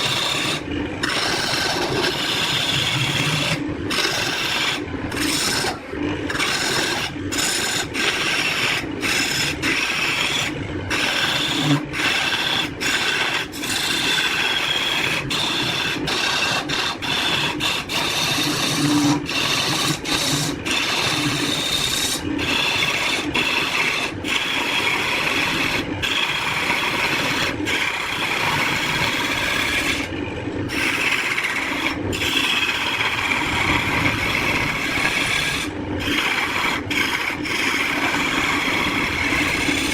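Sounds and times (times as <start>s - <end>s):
abrasive tool rasping wood: 0.0s - 30.1s, 30.7s - 39.9s.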